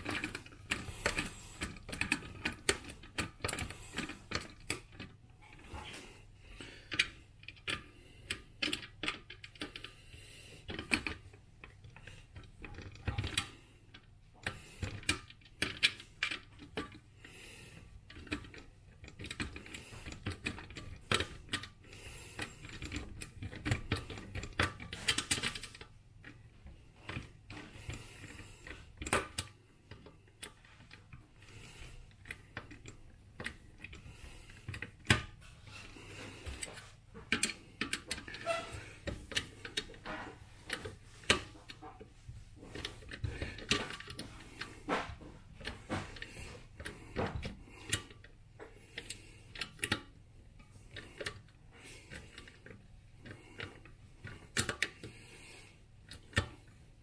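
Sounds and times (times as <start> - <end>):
metal parts clicking: 0.0 - 6.0, 6.9 - 17.0, 18.1 - 56.8.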